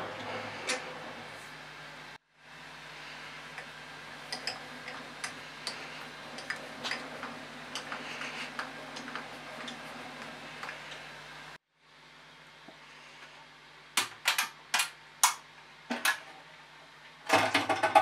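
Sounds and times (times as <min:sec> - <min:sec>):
steady low hum: 0:00.0 - 0:17.3.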